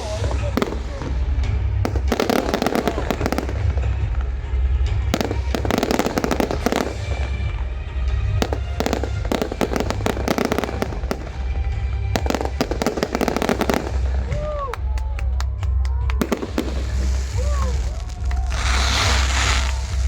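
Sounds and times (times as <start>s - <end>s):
firework bangs: 0.0s - 20.0s
firework crackling: 0.0s - 20.0s.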